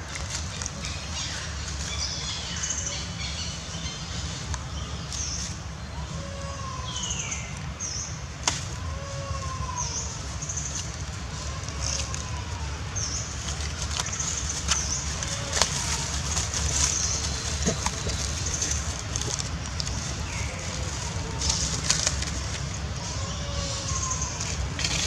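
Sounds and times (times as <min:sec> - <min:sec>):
footsteps crackling dry leaves: 0:00.0 - 0:07.5, 0:08.4 - 0:25.0
low steady rumble: 0:00.0 - 0:25.0.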